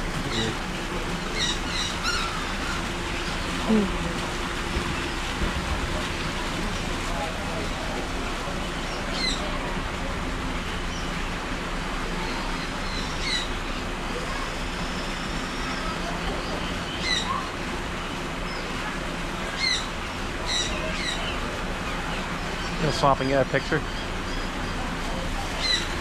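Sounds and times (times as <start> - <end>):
birds chirping: 0.0 - 11.4, 12.1 - 26.0.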